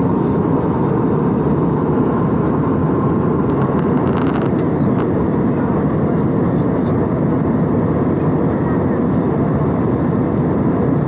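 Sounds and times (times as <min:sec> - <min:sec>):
airliner cabin jet drone: 0:00.0 - 0:11.0.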